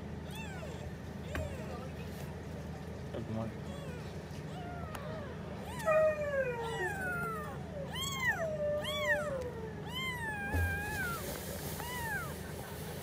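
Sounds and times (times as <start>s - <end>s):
newborn kittens mewing: 0.2s - 1.9s, 3.5s - 12.5s.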